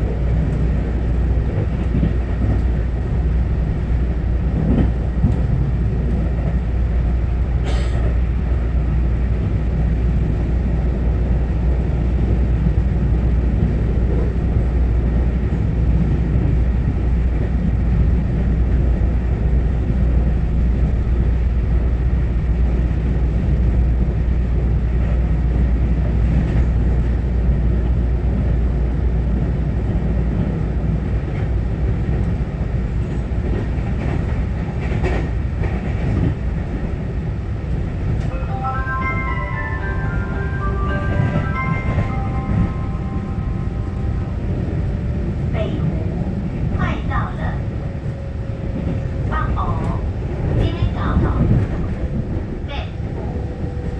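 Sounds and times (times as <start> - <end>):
train wheels rumbling on track: 0.0 - 53.9.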